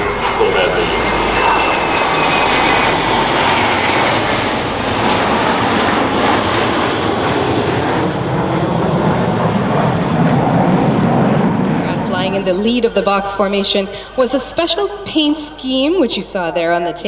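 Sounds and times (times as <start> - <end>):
jets roaring past: 0.0 - 17.0.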